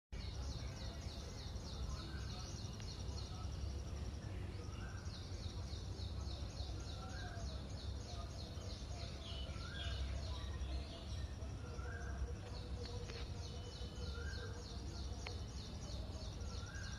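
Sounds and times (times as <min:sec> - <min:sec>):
birds chirping: 0:00.1 - 0:16.9.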